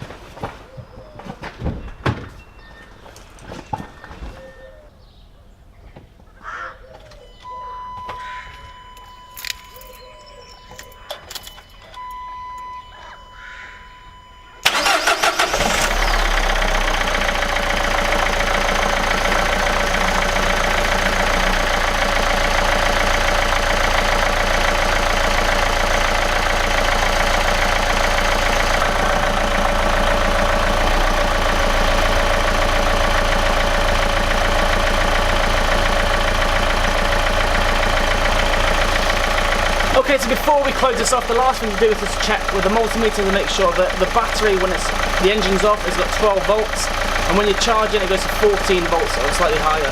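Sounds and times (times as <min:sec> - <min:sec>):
diesel engine cranking and idling: 0:07.1 - 0:49.9.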